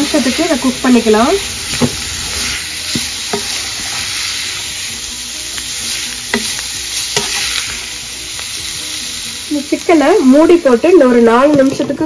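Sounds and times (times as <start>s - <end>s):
spatula stirring in pan: 0.0s - 10.6s
chicken sizzling in hot oil: 0.0s - 12.0s.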